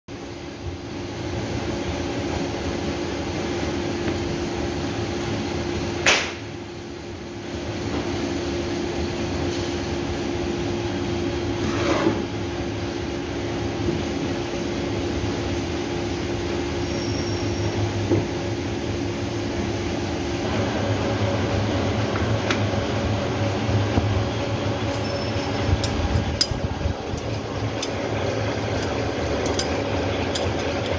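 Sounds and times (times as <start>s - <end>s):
workshop machinery humming: 0.1s - 30.9s.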